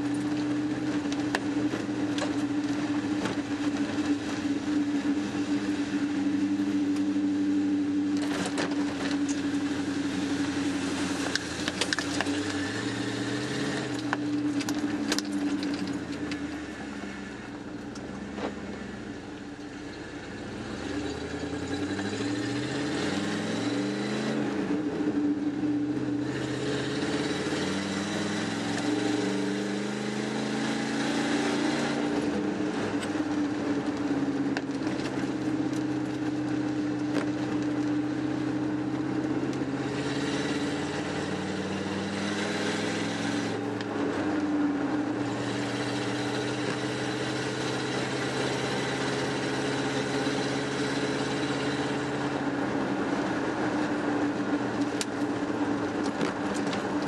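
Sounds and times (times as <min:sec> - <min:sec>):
truck engine accelerating: 0:00.0 - 0:57.0.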